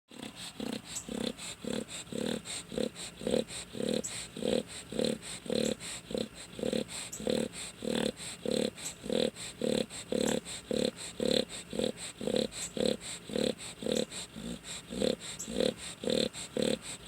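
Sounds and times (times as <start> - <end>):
dog snoring: 0.1 - 17.0.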